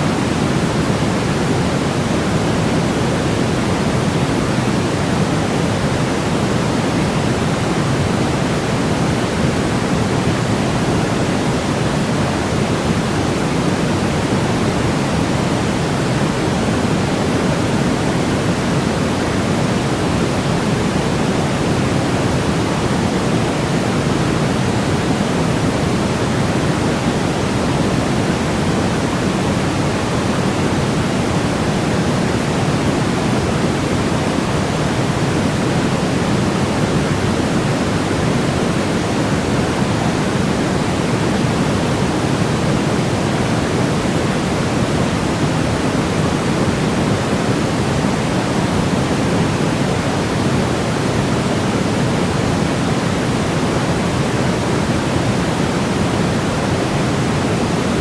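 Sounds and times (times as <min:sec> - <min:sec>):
low white noise hiss: 0:00.0 - 0:58.0.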